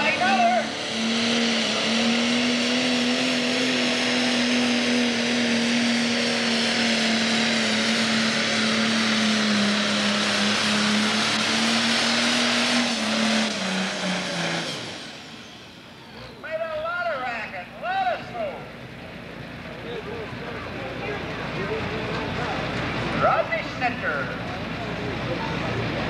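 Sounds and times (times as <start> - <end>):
tractor diesel engine running flat out: 0.0 - 26.0.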